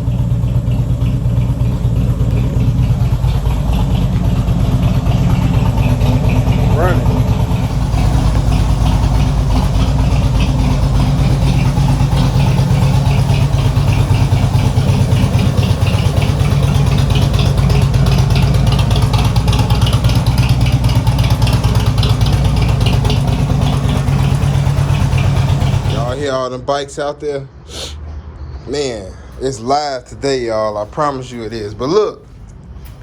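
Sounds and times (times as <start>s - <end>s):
motorcycle engine idling: 0.0s - 26.4s.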